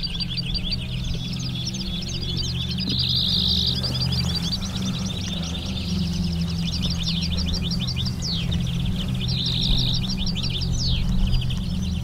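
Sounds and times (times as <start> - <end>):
finches twittering trills: 0.0 - 12.0.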